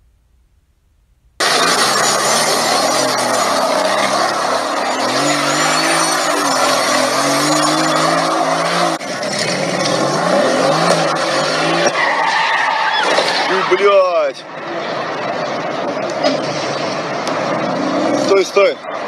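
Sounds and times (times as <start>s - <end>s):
car engine revving: 1.4s - 19.0s.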